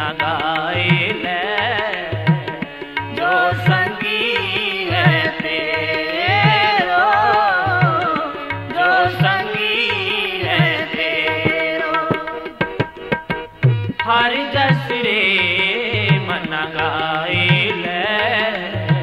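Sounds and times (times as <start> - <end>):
tabla drumming: 0.0 - 19.0.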